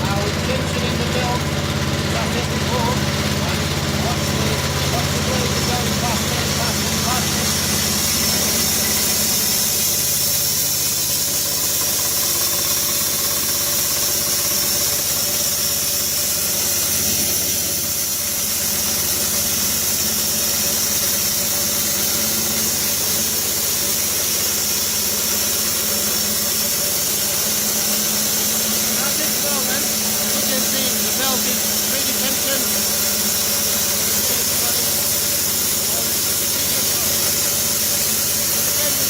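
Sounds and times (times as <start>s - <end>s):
small petrol engine running: 0.0s - 39.0s
spinning saw blade hissing: 0.0s - 39.0s.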